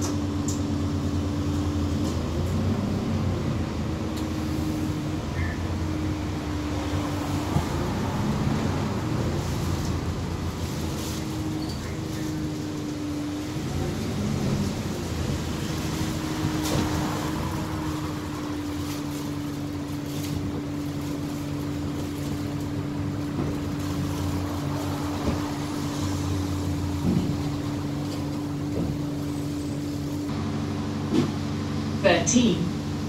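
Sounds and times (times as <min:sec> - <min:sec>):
bus drivetrain hum and whine: 0:00.0 - 0:33.0
road noise: 0:00.0 - 0:33.0.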